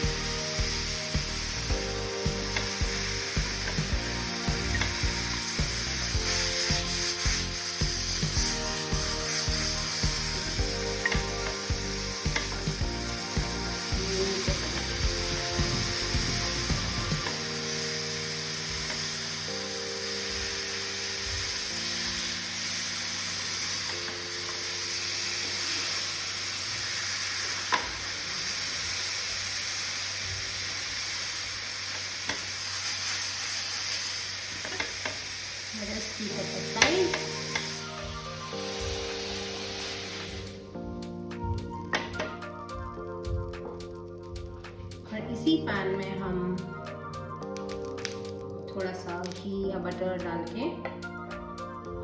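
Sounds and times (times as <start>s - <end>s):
food sizzling in a frying pan: 0.0s - 46.3s.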